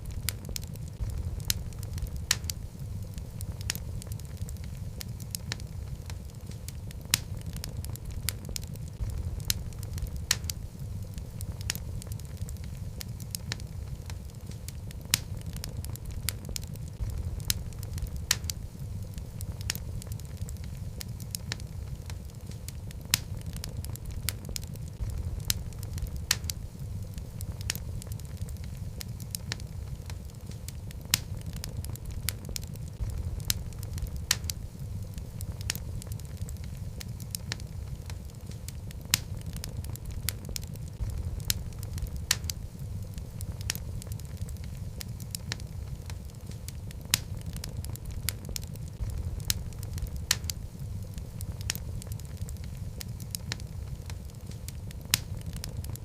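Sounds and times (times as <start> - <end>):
burning wood crackling and popping: 0.0 - 56.0
fire flames rumbling: 0.0 - 56.0.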